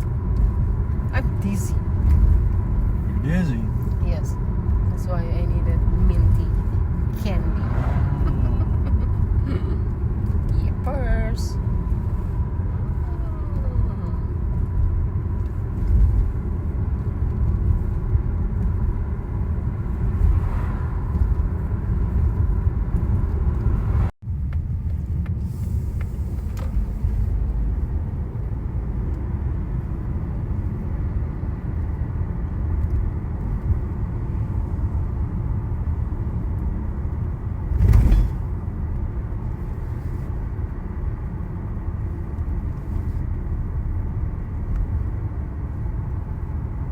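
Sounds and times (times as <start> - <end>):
car road and engine noise: 0.0 - 46.9.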